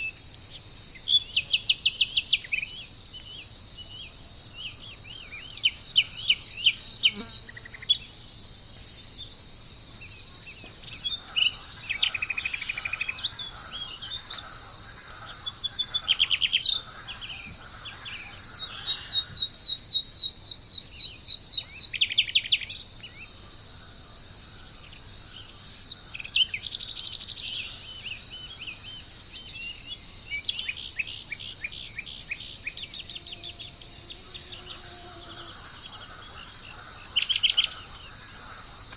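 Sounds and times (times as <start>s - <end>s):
insects droning: 0.0s - 38.9s
birds chirping: 0.6s - 38.9s.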